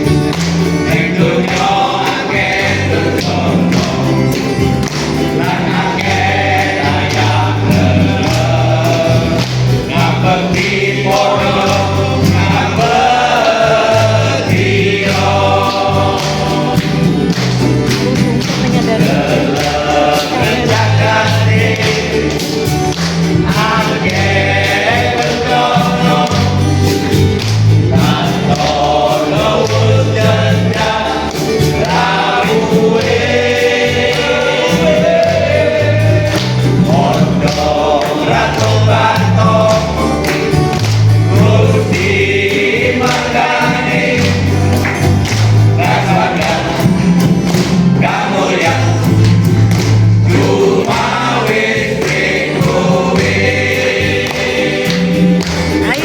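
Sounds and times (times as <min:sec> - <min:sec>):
band accompaniment with bass and beat: 0:00.0 - 0:56.0
choir singing: 0:00.0 - 0:56.0.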